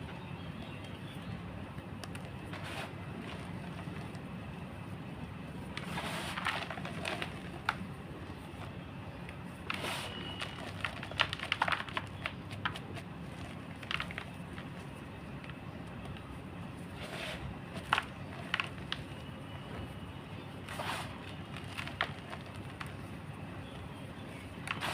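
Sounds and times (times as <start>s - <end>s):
steady low hum: 0.0s - 24.9s
chalk crunching and crackling: 2.0s - 4.4s, 5.5s - 19.3s, 20.6s - 24.9s.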